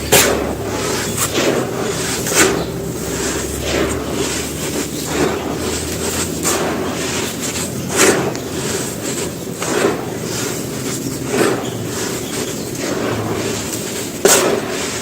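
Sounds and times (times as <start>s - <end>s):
sand-cement crumbling: 0.0s - 15.0s.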